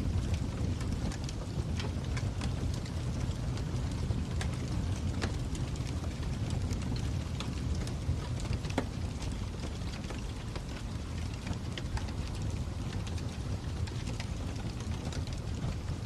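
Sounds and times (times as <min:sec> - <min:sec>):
fire crackling: 0:00.0 - 0:16.0
fire popping and snapping: 0:00.0 - 0:16.0.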